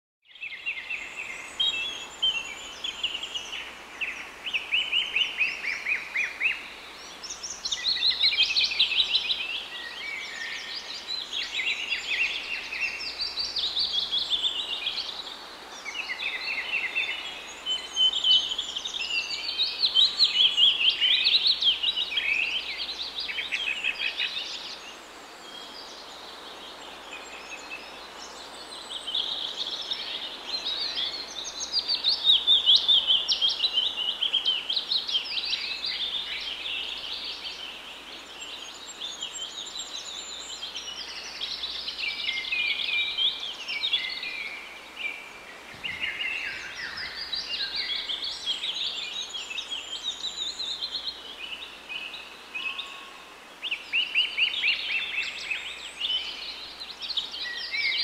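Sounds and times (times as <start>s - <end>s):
songbirds singing: 0.2s - 58.0s.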